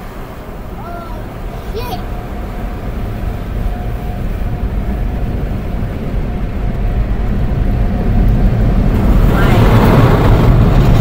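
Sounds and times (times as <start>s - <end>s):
faint steady hum: 0.0s - 9.3s
car wash machinery rumble: 0.0s - 11.0s.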